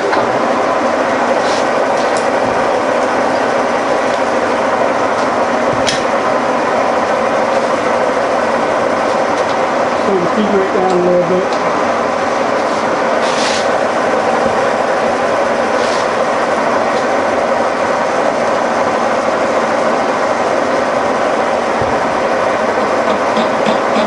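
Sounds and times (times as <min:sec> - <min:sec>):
milling machine gear drive droning: 0:00.0 - 0:24.0.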